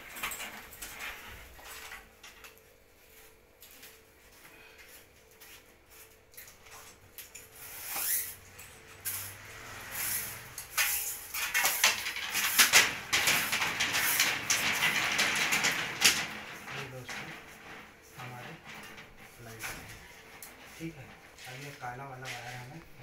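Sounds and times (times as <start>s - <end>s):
wires rustling and scraping: 0.0s - 23.0s.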